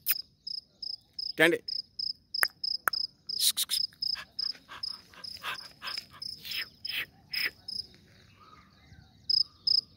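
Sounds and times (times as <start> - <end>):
cricket chirping: 0.0 - 9.9.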